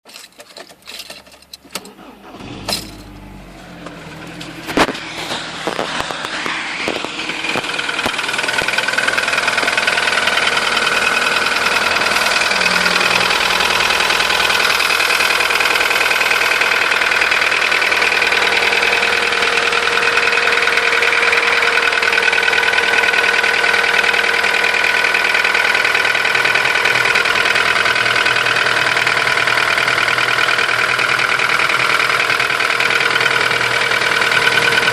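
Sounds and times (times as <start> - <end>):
car engine running: 1.8 - 34.9
engine knocking clatter: 4.7 - 34.9.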